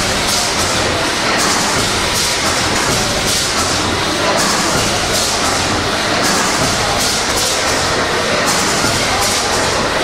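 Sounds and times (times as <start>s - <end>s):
steam engine running: 0.0s - 10.0s.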